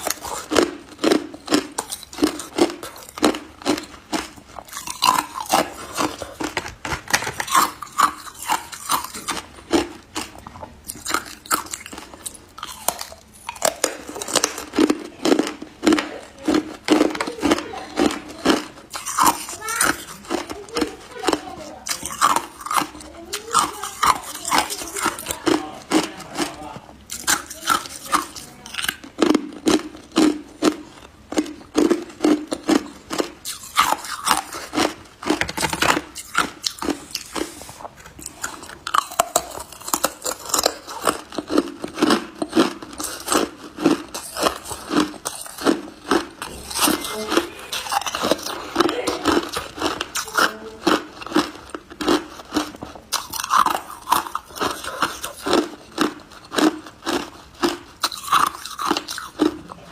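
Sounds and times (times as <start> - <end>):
chewing ice crunches: 0.0 - 59.9.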